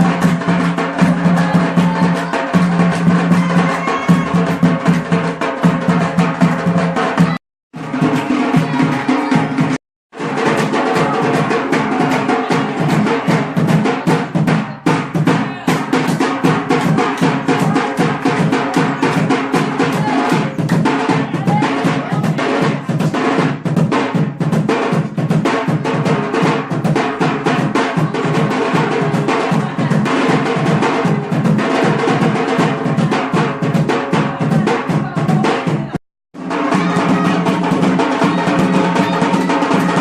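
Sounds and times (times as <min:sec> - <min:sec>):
drum beaten in fast rhythm: 0:00.0 - 0:40.0.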